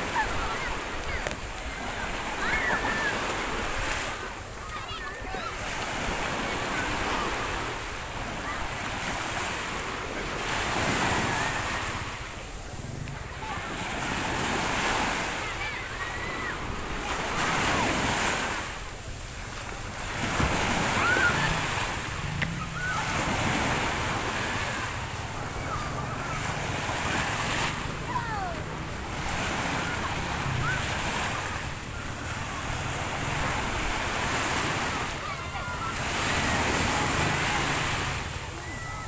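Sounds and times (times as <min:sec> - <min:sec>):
waves breaking on shore: 0:00.0 - 0:39.0
wind: 0:00.0 - 0:39.0.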